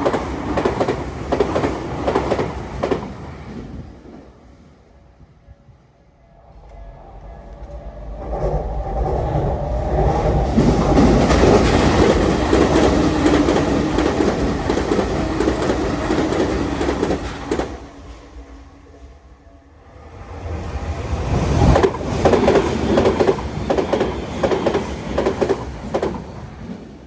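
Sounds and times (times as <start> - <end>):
electric train passing at speed: 0.0 - 27.0.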